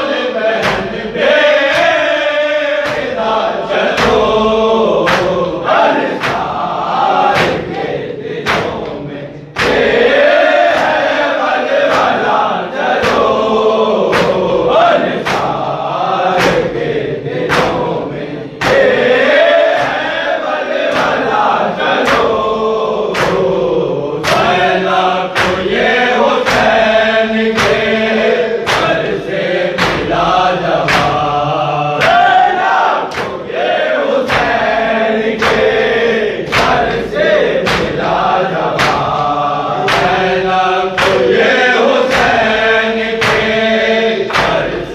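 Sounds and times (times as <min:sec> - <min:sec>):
men chanting together: 0:00.0 - 0:44.9
hands slapping chests: 0:00.6 - 0:02.1, 0:02.8 - 0:04.4, 0:05.0 - 0:14.4, 0:15.0 - 0:15.7, 0:16.3 - 0:20.2, 0:20.8 - 0:22.4, 0:23.1 - 0:23.6, 0:24.2 - 0:31.4, 0:32.0 - 0:44.9.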